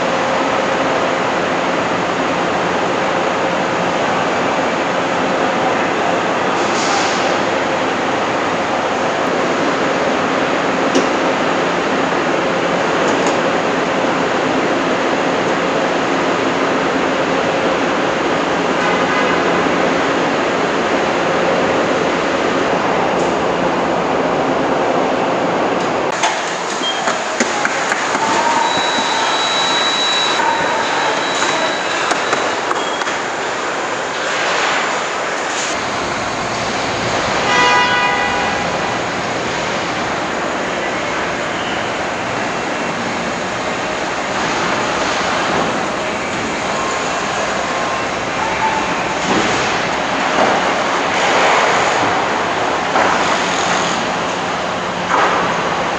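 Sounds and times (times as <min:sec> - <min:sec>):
ventilation and machinery rush: 0:00.0 - 0:55.9.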